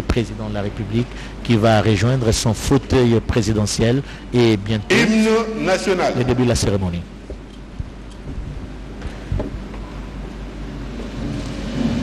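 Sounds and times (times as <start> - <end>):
hall room hum: 0.0 - 12.0.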